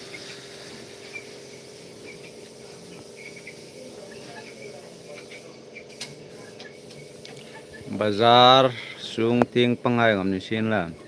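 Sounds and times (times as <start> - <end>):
insects chirring: 0.0 - 10.6.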